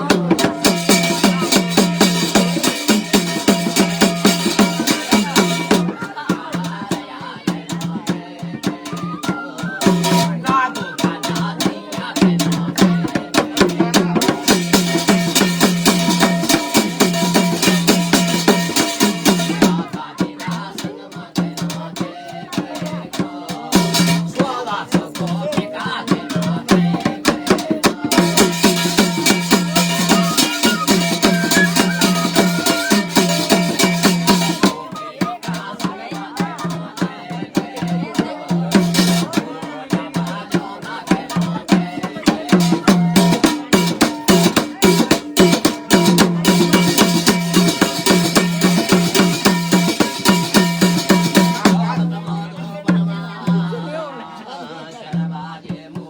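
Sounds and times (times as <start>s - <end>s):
fast drum strokes: 0.0s - 53.8s.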